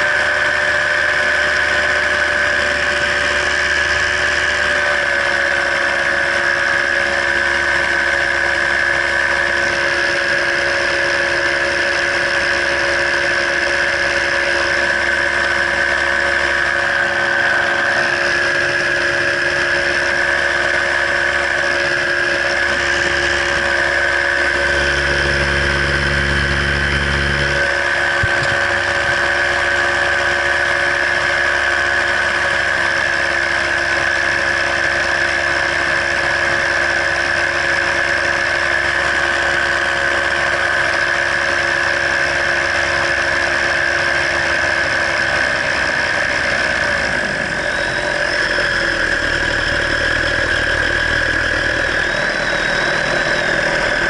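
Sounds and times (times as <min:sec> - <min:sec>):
paramotor engine running: 0:00.0 - 0:54.0.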